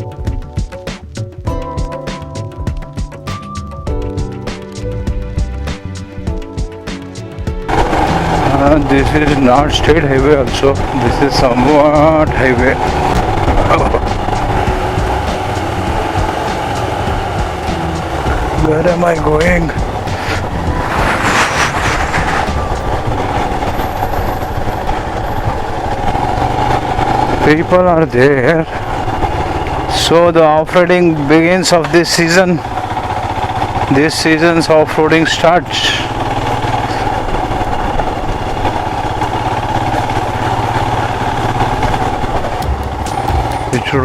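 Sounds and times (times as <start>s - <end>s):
motorcycle engine running: 0.0s - 44.0s
wind and road noise: 3.9s - 44.0s.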